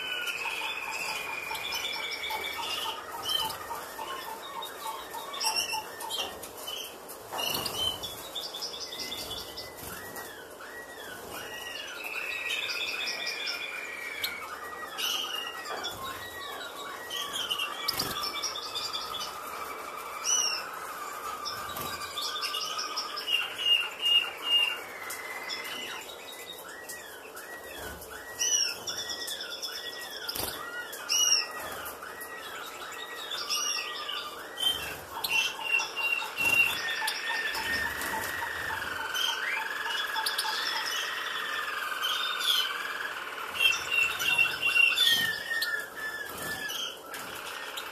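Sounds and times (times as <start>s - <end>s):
finches chirping and singing: 0.0s - 47.9s.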